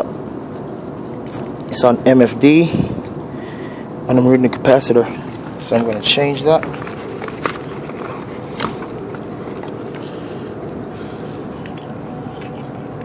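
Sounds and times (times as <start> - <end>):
machinery hum and hiss: 0.0 - 13.0.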